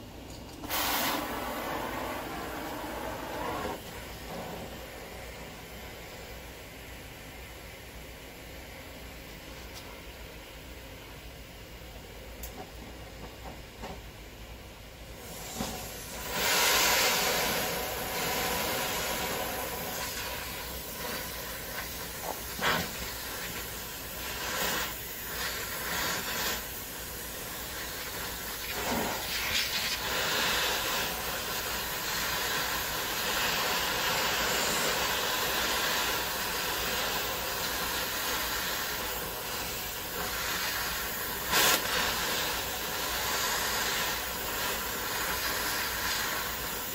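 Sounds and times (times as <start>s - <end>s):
gas torch flame hissing: 0.0s - 8.0s, 15.0s - 46.9s.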